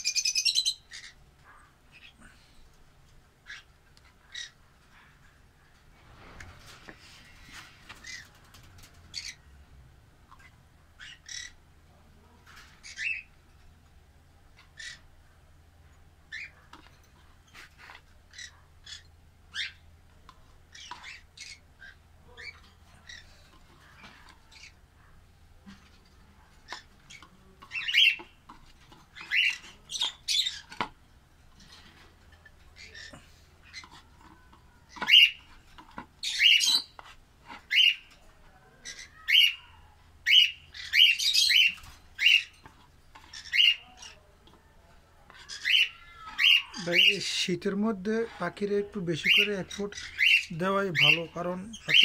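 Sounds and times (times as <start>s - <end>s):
parrots chirping and squawking: 0.0s - 2.4s, 3.4s - 5.6s, 6.4s - 9.5s, 10.2s - 11.7s, 12.5s - 13.8s, 14.5s - 15.2s, 16.3s - 52.0s.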